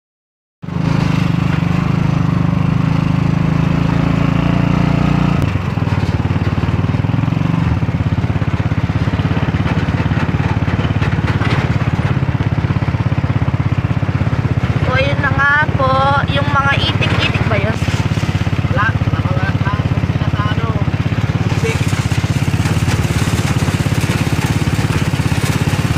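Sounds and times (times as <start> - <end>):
small engine puttering: 0.7 - 25.9.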